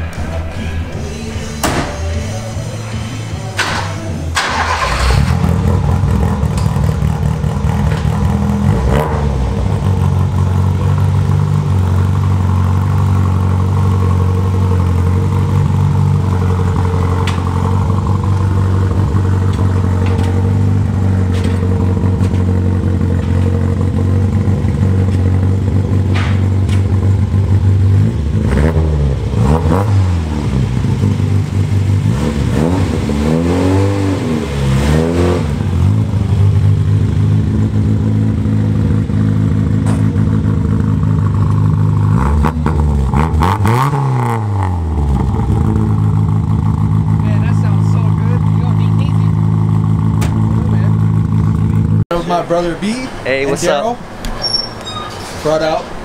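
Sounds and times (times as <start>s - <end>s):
car engine exhaust revving: 0.0s - 52.1s.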